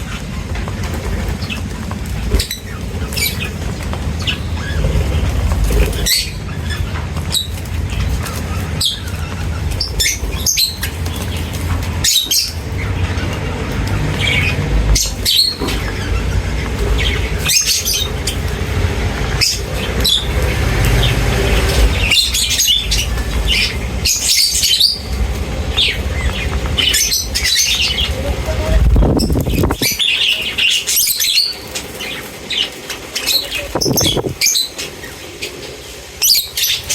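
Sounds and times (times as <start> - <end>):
low rumble: 0.0 - 30.1
small birds chirping: 0.0 - 36.9
wings fluttering: 0.0 - 36.9.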